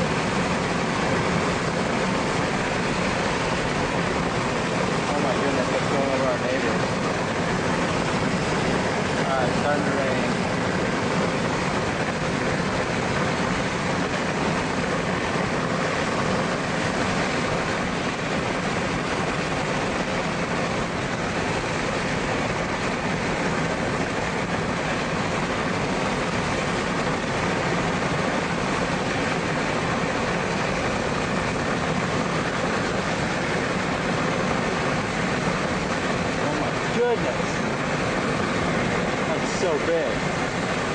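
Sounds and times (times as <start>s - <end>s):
vehicle engine running: 0.0s - 40.9s
wind and rain rushing: 0.0s - 40.9s.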